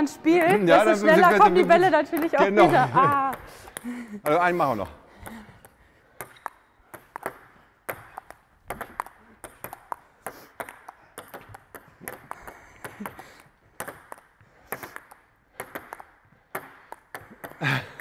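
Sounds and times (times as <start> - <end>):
table tennis balls clicking: 0.2 - 18.0.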